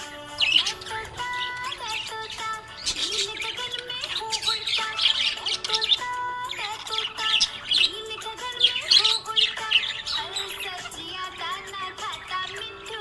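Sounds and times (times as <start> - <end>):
background song music: 0.0 - 13.0
budgerigars chirping and squawking: 0.0 - 13.0.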